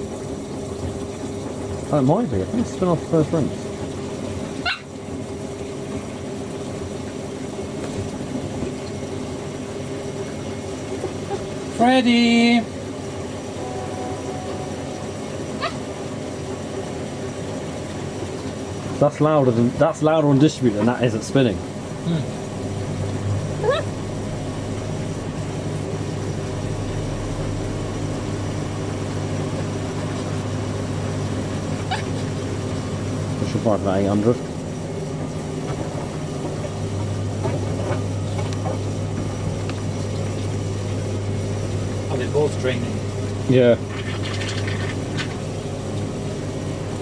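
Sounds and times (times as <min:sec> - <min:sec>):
washing machine motor hum: 0:00.0 - 0:47.0.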